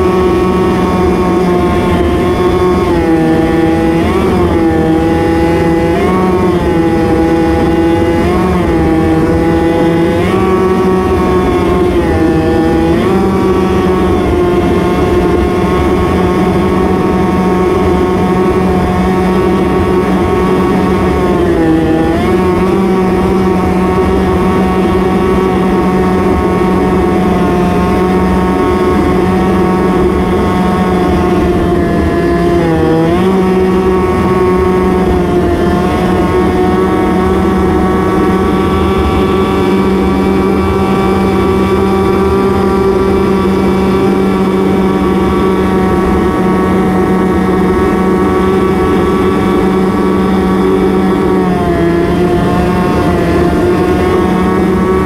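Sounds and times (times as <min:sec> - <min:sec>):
snowmobile engine at high revs: 0:00.0 - 0:55.0.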